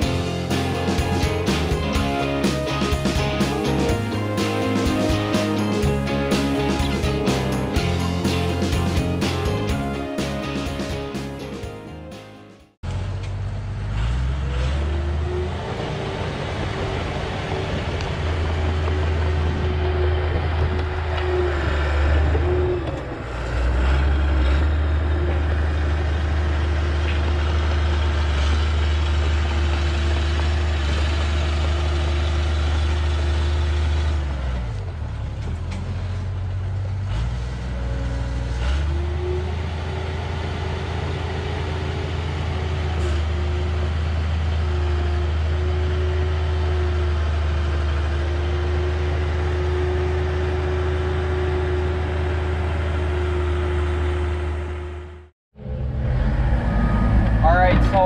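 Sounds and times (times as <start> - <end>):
diesel engine droning under load: 0.0 - 58.0.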